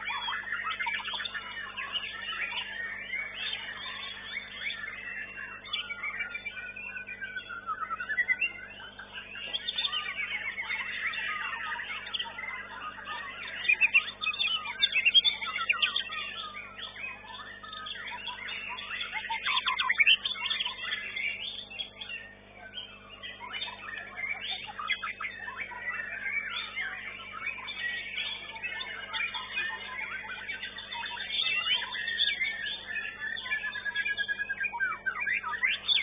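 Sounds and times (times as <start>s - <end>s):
songbirds chirping and whistling: 0.0s - 36.0s.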